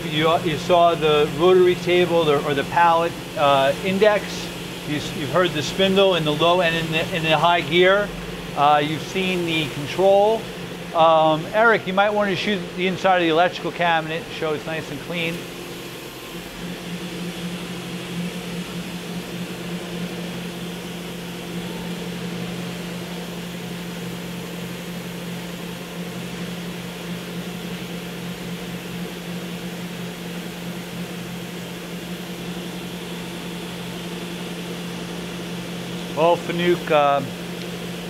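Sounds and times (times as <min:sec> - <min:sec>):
machining center humming: 0:00.0 - 0:38.0.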